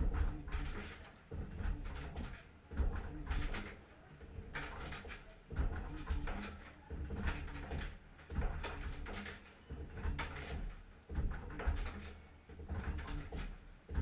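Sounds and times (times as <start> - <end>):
washing machine hum: 0.0 - 14.0
washing machine knocking: 0.0 - 14.0.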